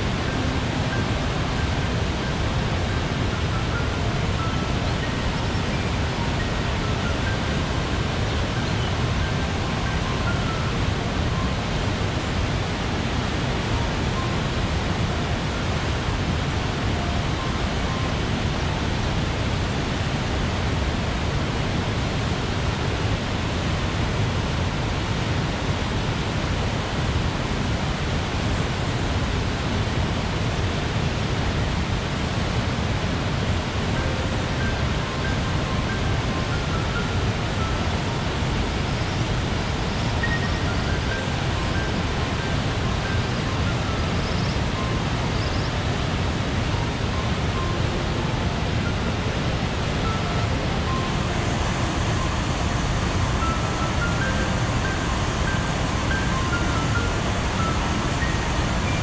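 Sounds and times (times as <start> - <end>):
river rapids and waterfall rushing: 0.0 - 59.0.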